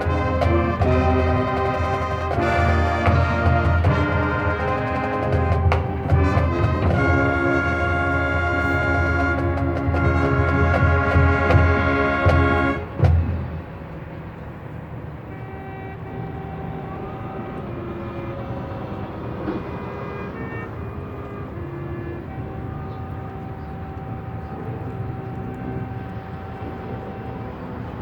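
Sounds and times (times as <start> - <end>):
marching band playing soft held notes: 0.0 - 28.0.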